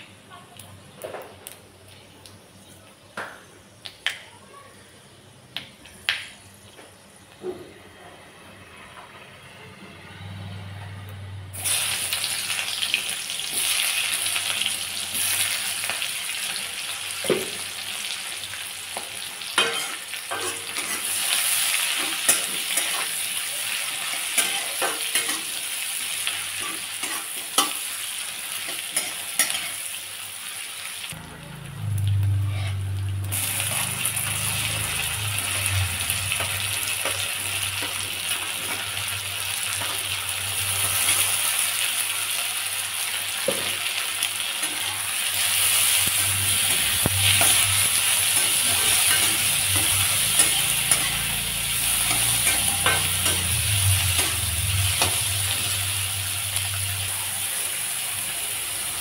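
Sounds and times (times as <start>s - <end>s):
onions sizzling in hot oil: 11.5s - 59.0s.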